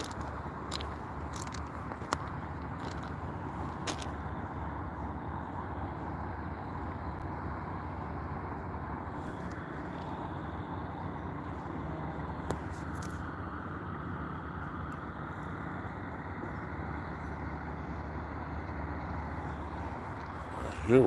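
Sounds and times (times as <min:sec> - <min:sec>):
truck engines idling: 0:00.0 - 0:21.0.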